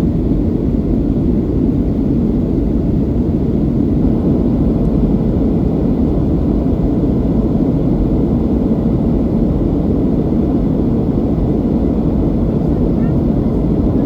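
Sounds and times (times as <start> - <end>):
airplane cabin engine noise: 0.0 - 14.0.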